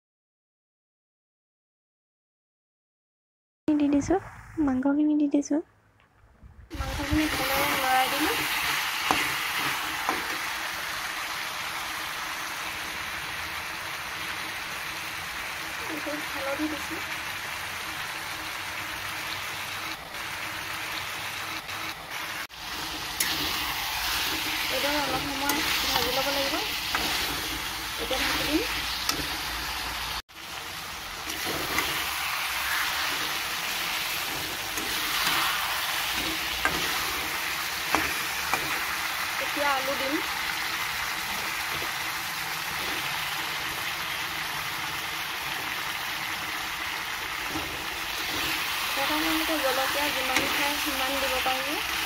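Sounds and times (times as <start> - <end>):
meat sizzling in a pan: 6.7 - 52.0.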